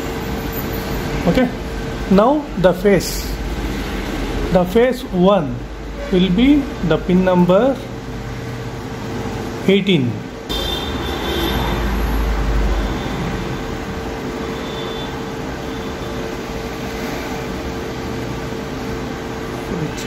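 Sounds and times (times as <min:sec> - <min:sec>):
fan whirring: 0:00.0 - 0:20.0.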